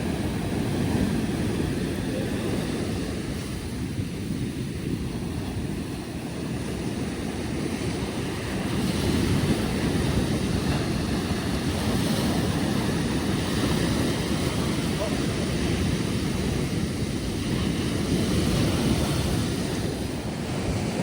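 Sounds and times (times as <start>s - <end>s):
ocean surf breaking on beach: 0.0s - 21.0s
wind noise on microphone: 0.0s - 21.0s.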